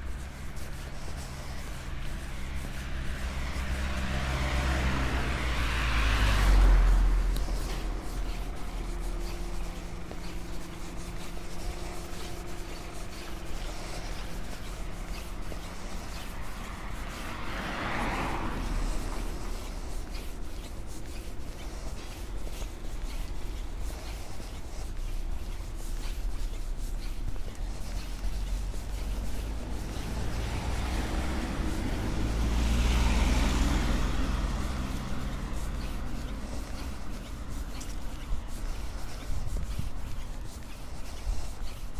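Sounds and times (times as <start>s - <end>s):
steady low rumble: 0.0s - 17.6s, 18.3s - 41.9s
car passing: 0.0s - 41.9s
low steady engine hum: 0.0s - 41.9s.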